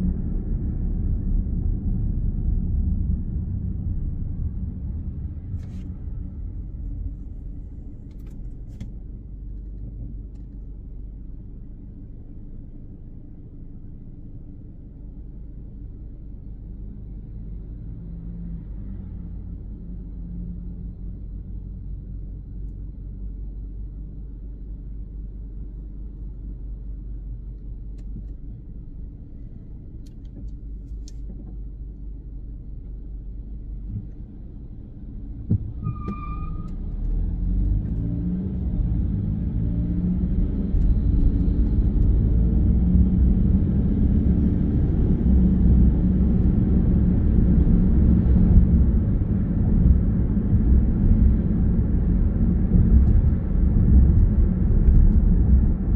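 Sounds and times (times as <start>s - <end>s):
car engine rumble inside cabin: 0.0s - 55.9s.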